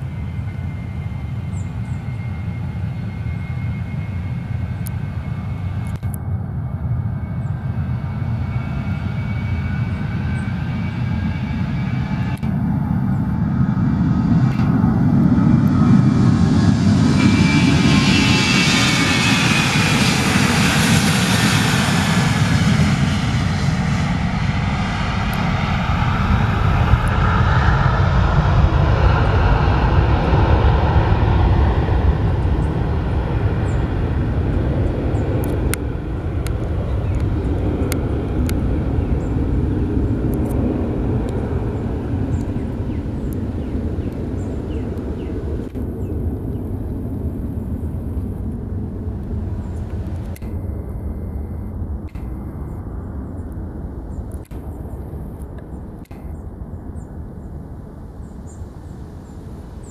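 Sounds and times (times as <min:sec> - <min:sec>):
jet engine whine: 0:00.0 - 0:59.9
jet engines roaring: 0:00.0 - 0:59.9.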